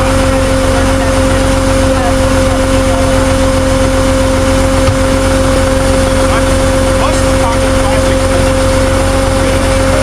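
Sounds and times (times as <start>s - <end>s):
steady droning hum: 0.0s - 10.0s
vehicle engine running: 0.0s - 10.0s.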